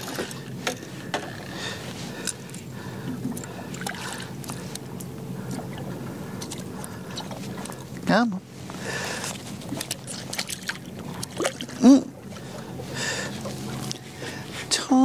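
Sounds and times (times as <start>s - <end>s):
water and boat noise: 0.0s - 15.0s.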